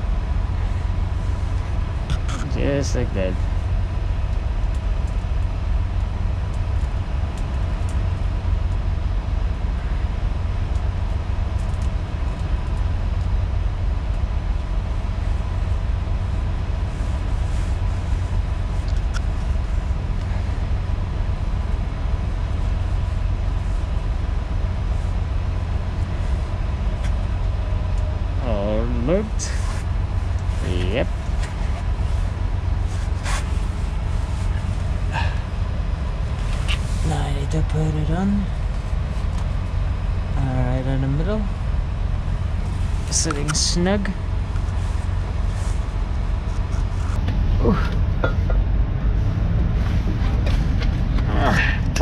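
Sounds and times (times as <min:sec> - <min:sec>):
engine idling: 0:00.0 - 0:49.3
faint humming tones: 0:00.0 - 0:52.0.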